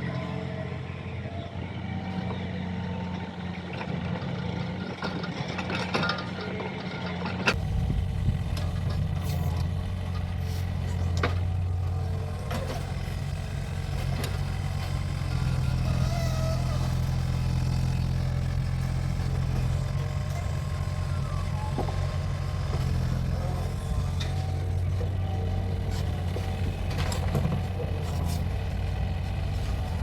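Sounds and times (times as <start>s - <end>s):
excavator engine running: 0.2s - 30.0s.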